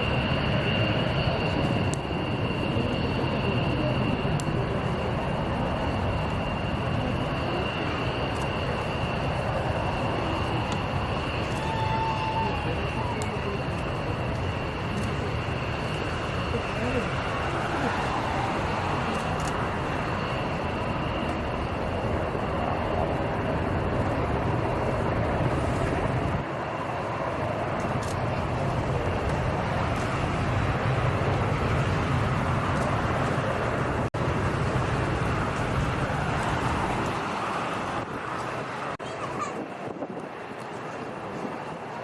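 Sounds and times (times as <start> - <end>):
aircraft engine whine: 0.0 - 42.0.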